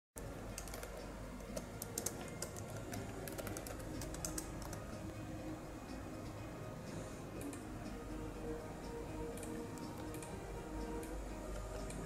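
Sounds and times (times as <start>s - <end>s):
low steady hum: 0.2s - 12.0s.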